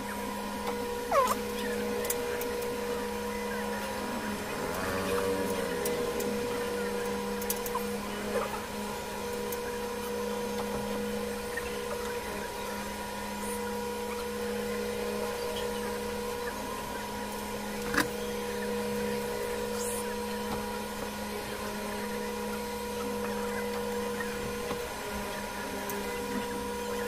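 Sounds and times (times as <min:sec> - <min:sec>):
machine hum with tones: 0:00.0 - 0:27.0.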